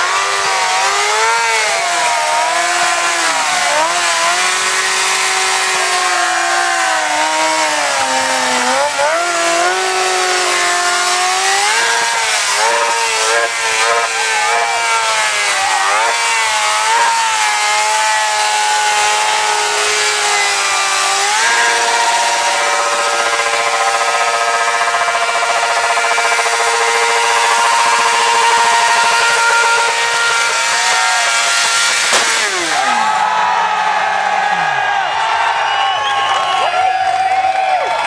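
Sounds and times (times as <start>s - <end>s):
motorcycle engine revving: 0.0s - 33.7s.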